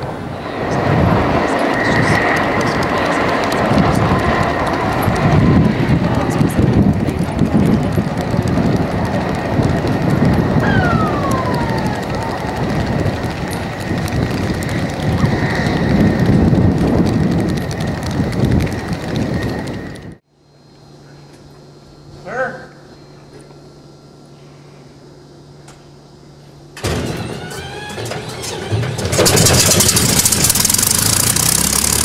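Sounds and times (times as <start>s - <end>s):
aircraft engines rumbling: 0.0s - 20.2s, 24.0s - 32.0s
high engine whine: 0.0s - 32.0s.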